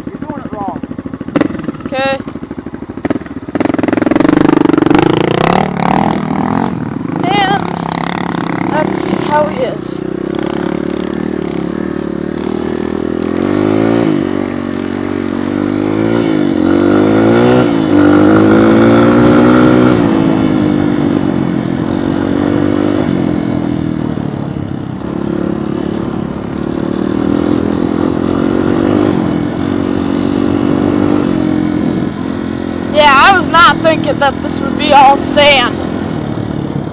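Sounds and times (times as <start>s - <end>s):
dirt bike engine revving: 0.2s - 36.2s.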